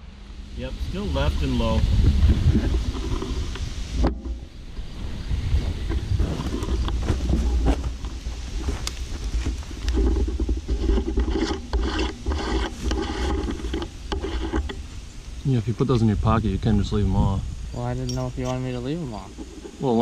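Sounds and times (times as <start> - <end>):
wind rumbling on microphone: 0.0 - 20.0
light rubbing: 1.2 - 16.2, 17.8 - 20.0.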